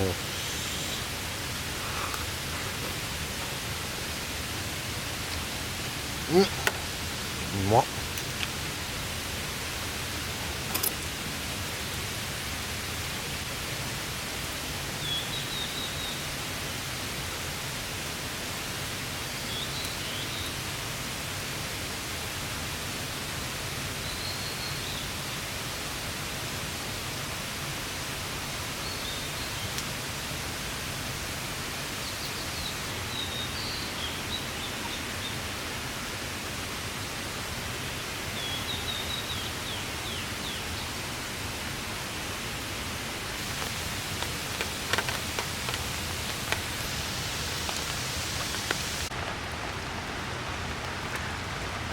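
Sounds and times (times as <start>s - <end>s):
rain hissing on a tarp: 0.0s - 51.9s.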